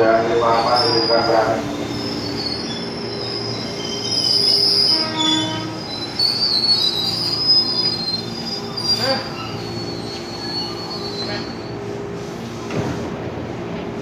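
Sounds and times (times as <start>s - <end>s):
electric train rumble: 0.0s - 14.0s
train wheels squealing: 0.3s - 11.9s.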